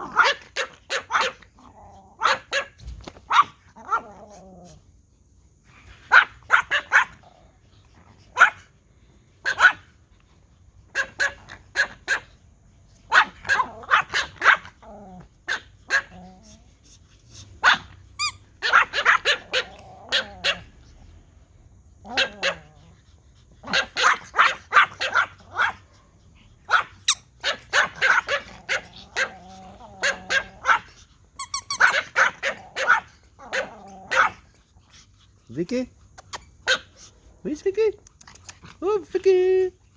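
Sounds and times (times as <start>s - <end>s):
small dogs yapping: 0.0s - 5.0s, 5.7s - 37.4s.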